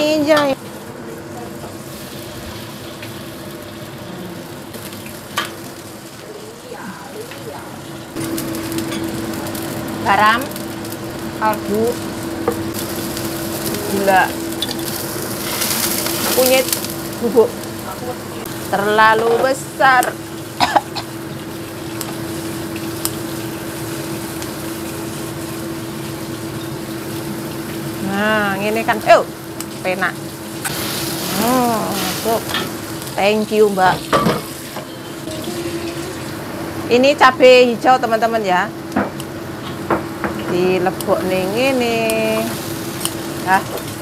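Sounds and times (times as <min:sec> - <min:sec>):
steady mechanical hum: 0:00.0 - 0:44.0
paste sizzling in a wok: 0:01.7 - 0:29.4, 0:30.2 - 0:36.6, 0:42.2 - 0:44.0.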